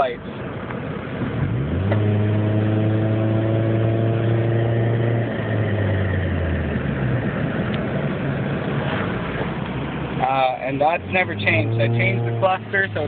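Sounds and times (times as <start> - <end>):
car engine from inside cabin: 0.2 - 13.0.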